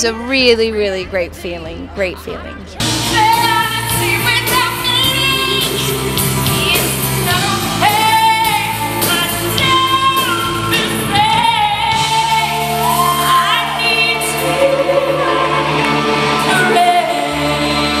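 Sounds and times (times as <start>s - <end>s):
woman singing into microphone: 3.0s - 18.0s.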